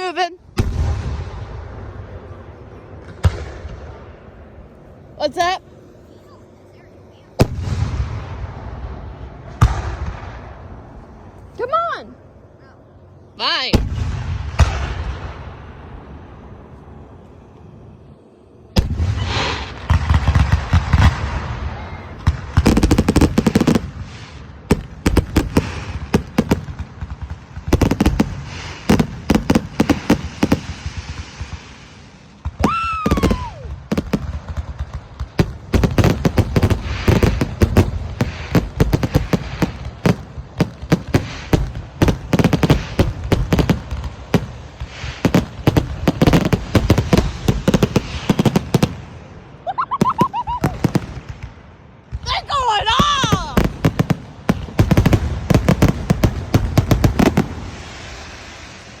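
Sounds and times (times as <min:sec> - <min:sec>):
fireworks bangs and crackles: 0:00.0 - 0:12.1, 0:12.8 - 0:18.0, 0:18.6 - 0:59.0.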